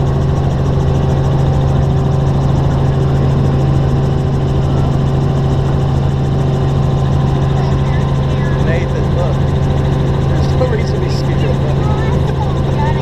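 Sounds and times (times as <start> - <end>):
helicopter cabin engine hum: 0.0 - 13.0.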